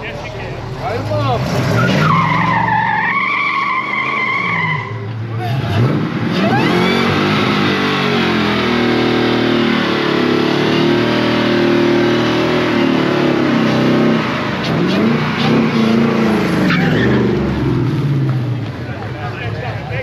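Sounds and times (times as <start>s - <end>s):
car engine revving high: 1.2s - 18.8s.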